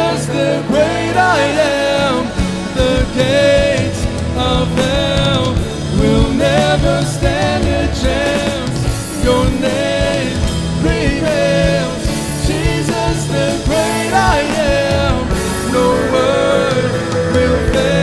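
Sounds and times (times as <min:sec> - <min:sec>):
band accompaniment with beat: 0:00.0 - 0:18.0
voices singing worship song: 0:00.0 - 0:18.0.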